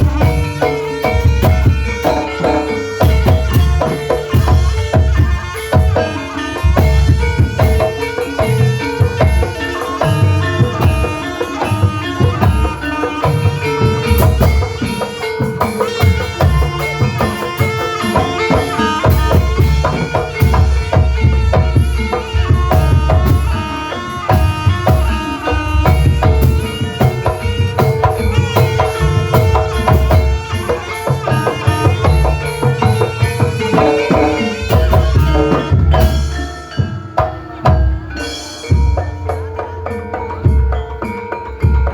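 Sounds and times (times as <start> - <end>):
drum strokes: 0.0 - 41.9
struck keyed instruments melody: 0.0 - 41.9.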